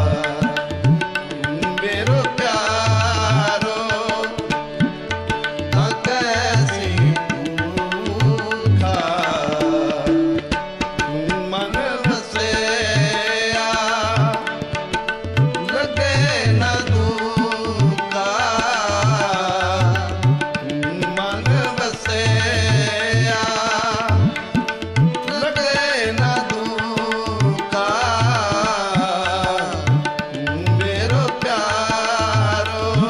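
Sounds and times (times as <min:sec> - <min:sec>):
person singing: 0:00.0 - 0:05.0, 0:05.6 - 0:14.6, 0:15.5 - 0:33.0
tabla: 0:00.0 - 0:33.0.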